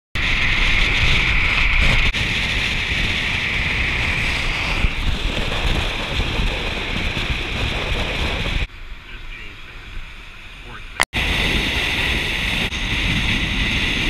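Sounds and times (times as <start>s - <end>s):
wind rushing over camera: 0.2s - 8.9s, 9.8s - 14.0s
low road rumble: 0.2s - 14.0s.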